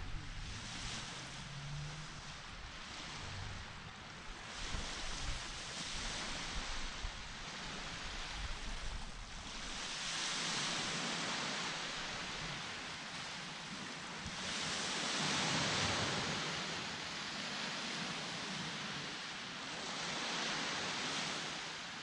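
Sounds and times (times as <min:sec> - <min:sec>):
waves breaking on beach: 0:00.0 - 0:22.0.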